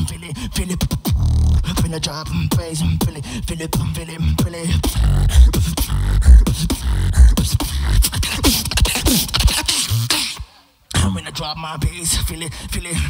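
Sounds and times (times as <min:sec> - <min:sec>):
beatboxing bass hits: 0:00.0 - 0:10.5.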